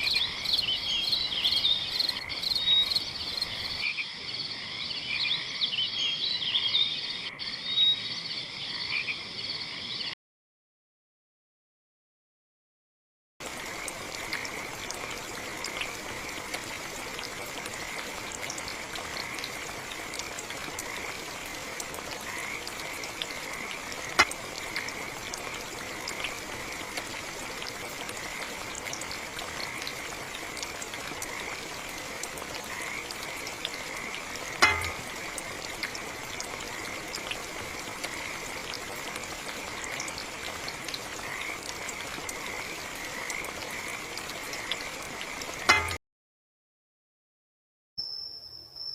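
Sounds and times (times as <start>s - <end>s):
frogs croaking: 0.0s - 10.2s, 13.4s - 46.0s.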